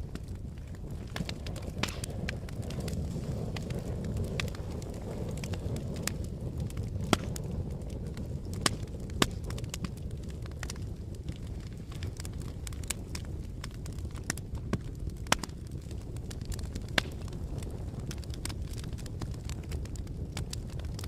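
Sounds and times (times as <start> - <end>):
fire pops and snaps: 0.0 - 21.0
fire rumbling: 0.0 - 21.0.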